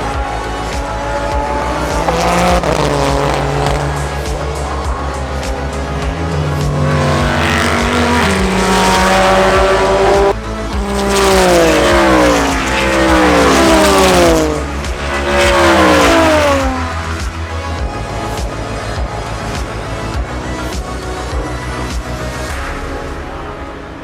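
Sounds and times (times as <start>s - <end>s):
cars passing by: 0.0s - 20.7s
race car engines at full throttle: 0.0s - 24.0s.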